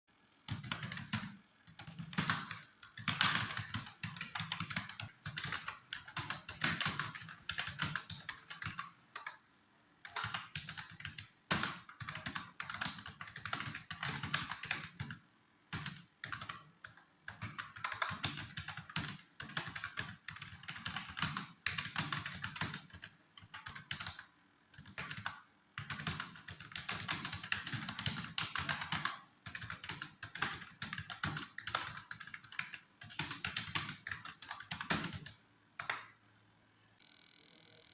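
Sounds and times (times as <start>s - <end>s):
computer keyboard typing: 0.5s - 9.4s, 10.0s - 36.2s.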